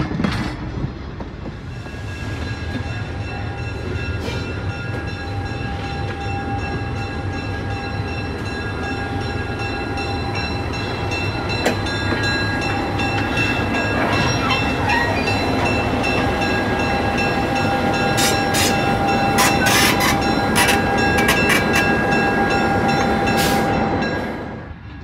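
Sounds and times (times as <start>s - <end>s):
diesel locomotive engine running: 0.0s - 25.0s.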